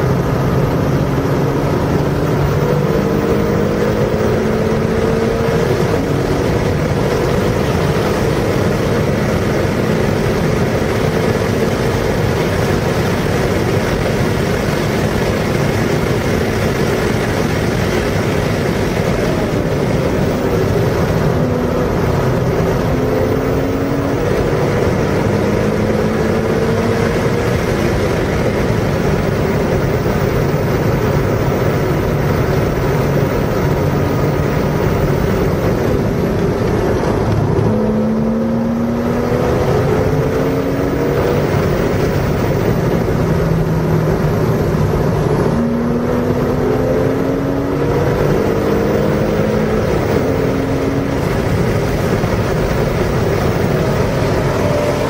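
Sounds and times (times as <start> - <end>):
car engine accelerating hard: 0.0 - 55.0
wind and road noise: 0.0 - 55.0.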